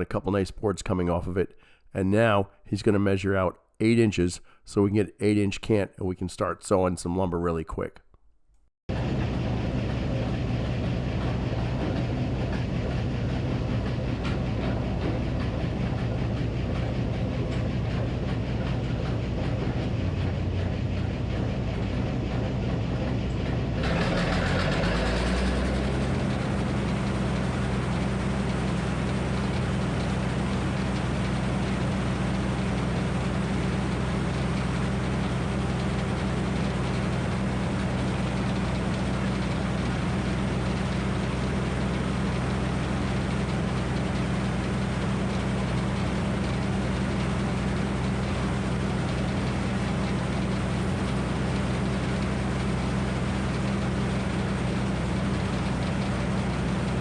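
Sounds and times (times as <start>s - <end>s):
engine running steadily: 8.9s - 57.0s.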